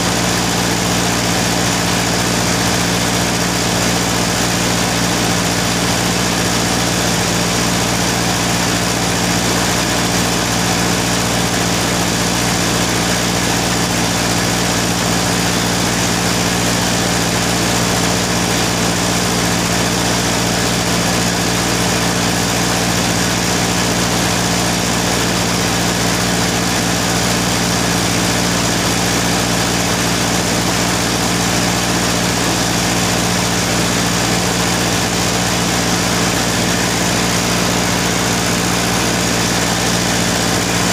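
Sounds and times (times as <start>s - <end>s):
machine idling hum: 0.0s - 40.9s.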